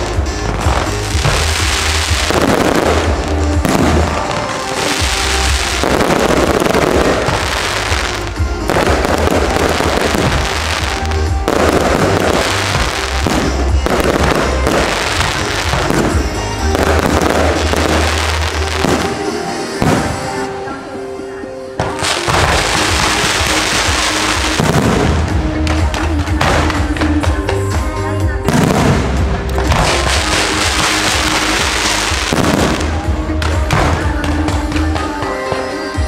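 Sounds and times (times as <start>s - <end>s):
fireworks bangs: 0.0s - 21.2s, 21.8s - 36.0s
show music: 0.0s - 36.0s.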